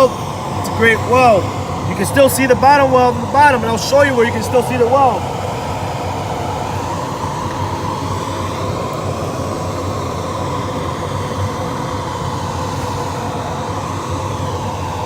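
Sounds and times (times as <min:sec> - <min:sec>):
fume extractor blower humming: 0:00.0 - 0:15.0.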